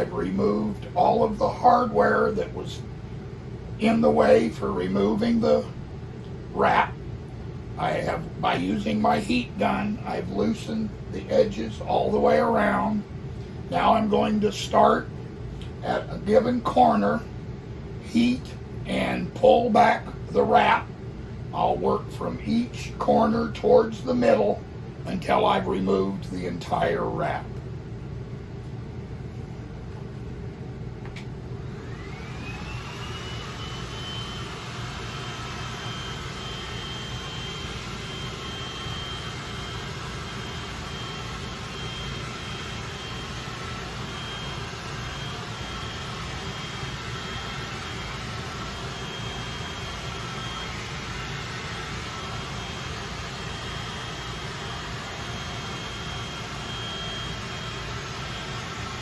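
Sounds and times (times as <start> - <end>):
heat gun fan whine: 0.0 - 59.0.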